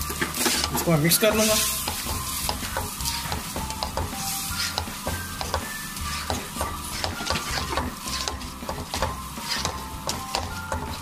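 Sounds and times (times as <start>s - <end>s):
food sizzling in a pan: 0.0s - 11.0s
spatula scraping metal pan: 0.1s - 11.0s.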